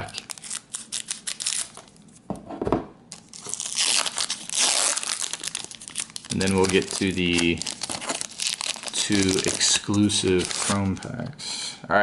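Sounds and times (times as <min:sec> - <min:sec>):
foil wrapper tearing: 0:00.0 - 0:01.9, 0:03.1 - 0:11.1
foil wrapper crinkling: 0:00.0 - 0:02.0, 0:03.1 - 0:11.1.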